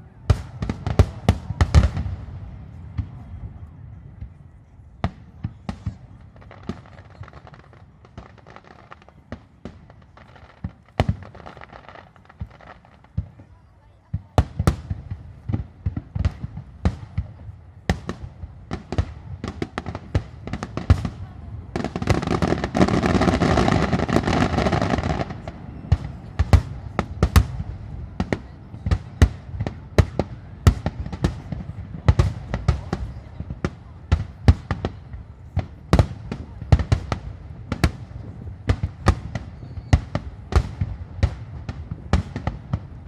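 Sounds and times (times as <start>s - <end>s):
fireworks bursting with sharp bangs: 0.0s - 43.0s.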